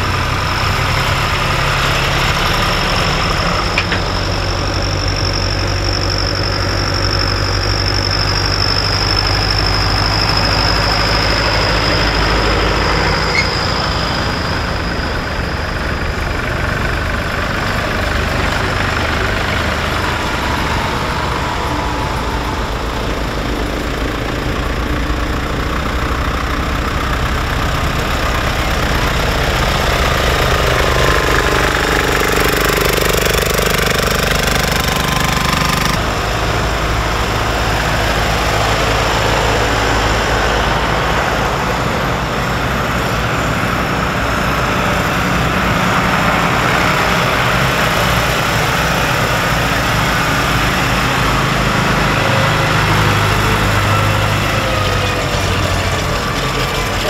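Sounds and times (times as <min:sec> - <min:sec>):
tractor diesel engines: 0:00.0 - 0:57.0.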